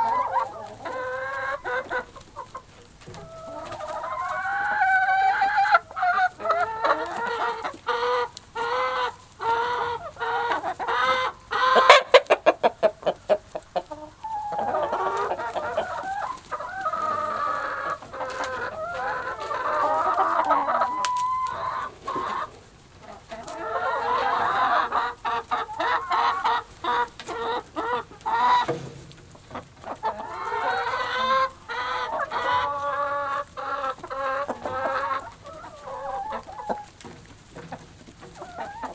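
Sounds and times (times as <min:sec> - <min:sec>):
chickens clucking and squawking: 0:00.0 - 0:38.9.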